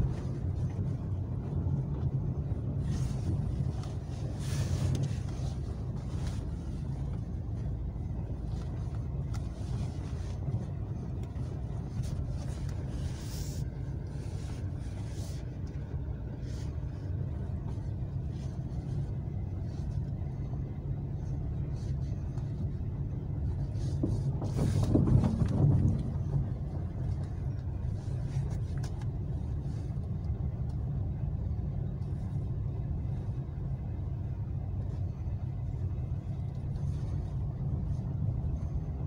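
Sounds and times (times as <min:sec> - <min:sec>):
engine and tyre rumble: 0:00.0 - 0:39.0.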